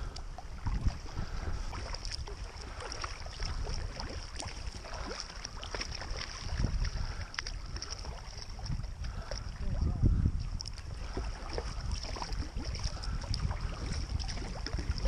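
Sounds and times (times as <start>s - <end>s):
paddle splashes: 0.0s - 15.0s
water splashing around kayak: 0.0s - 15.0s
wind on microphone: 0.0s - 15.0s.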